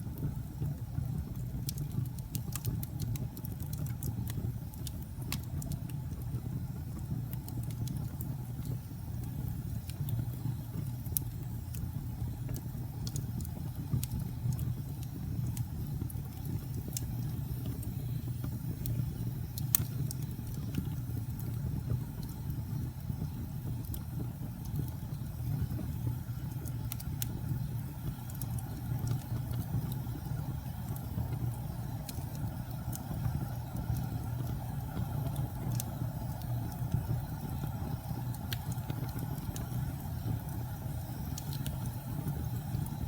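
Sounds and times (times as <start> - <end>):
log fire crackling: 0.0 - 43.0.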